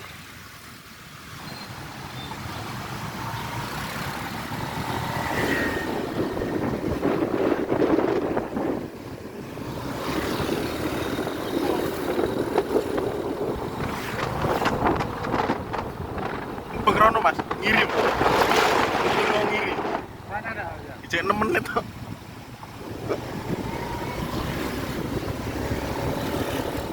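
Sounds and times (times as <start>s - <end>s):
wind buffeting microphone: 1.8s - 26.9s.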